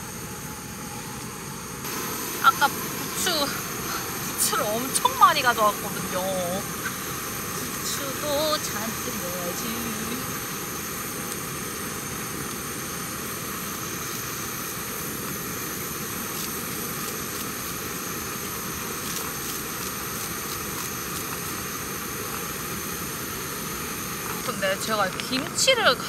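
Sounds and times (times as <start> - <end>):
gas stove roaring: 0.0 - 26.0.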